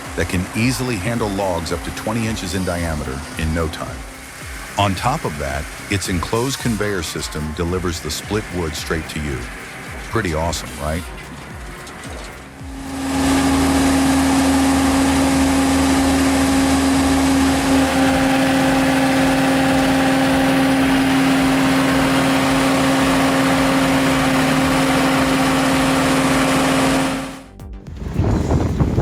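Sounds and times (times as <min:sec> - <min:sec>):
engine running with steady whine: 0:00.0 - 0:29.0.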